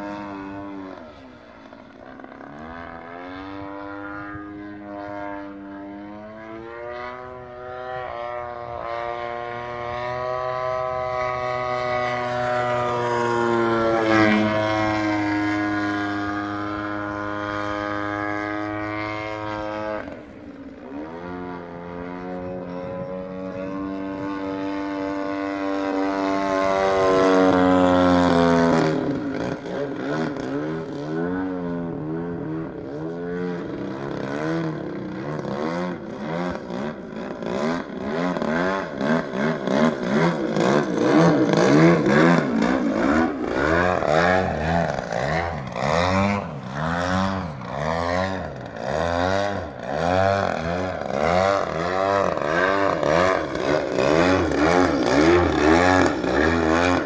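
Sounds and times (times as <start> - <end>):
model plane engine droning: 0.0 - 57.0.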